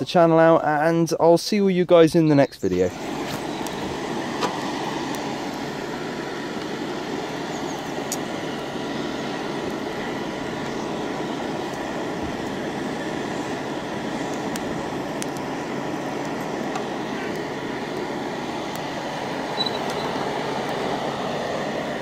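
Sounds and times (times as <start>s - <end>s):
coal fire burning: 2.7s - 22.0s
hairdryer air rushing: 2.8s - 22.0s.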